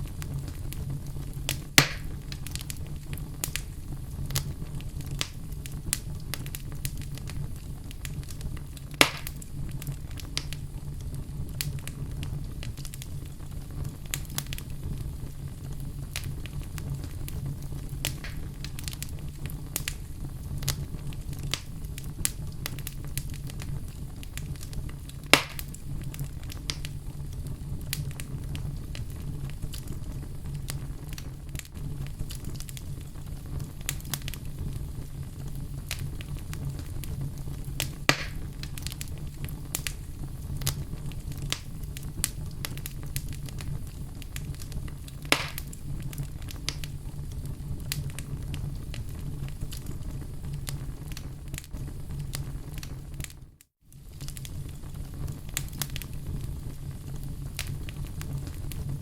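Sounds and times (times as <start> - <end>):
fire popping: 0.0 - 59.0
loud fire snaps: 0.0 - 59.0
wood fire crackling: 0.0 - 59.0.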